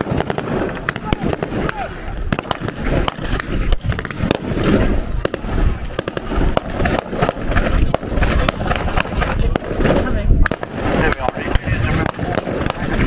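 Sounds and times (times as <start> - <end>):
blank gunshots: 0.0 - 13.0.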